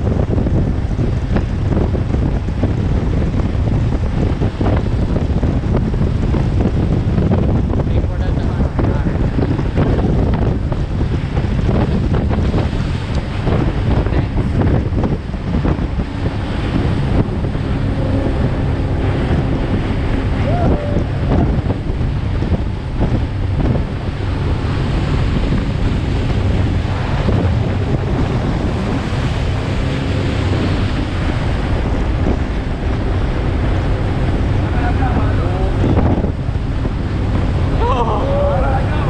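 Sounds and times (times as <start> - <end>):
boat engine drone: 0.0 - 39.0
water rushing past hull: 0.0 - 39.0
wind buffeting microphone: 0.0 - 39.0.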